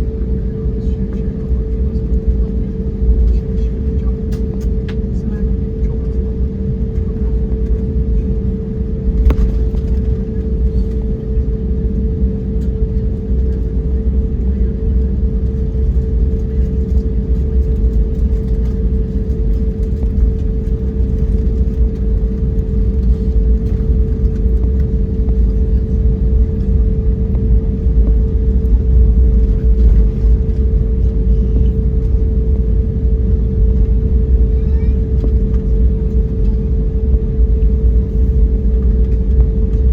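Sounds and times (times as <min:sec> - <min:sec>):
constant hum: 0:00.0 - 0:39.9
jet engines rumbling: 0:00.0 - 0:39.9.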